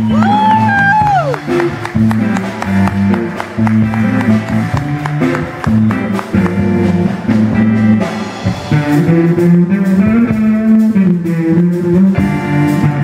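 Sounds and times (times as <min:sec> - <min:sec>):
bass guitar: 0:00.0 - 0:13.0
drum kit: 0:00.0 - 0:13.0.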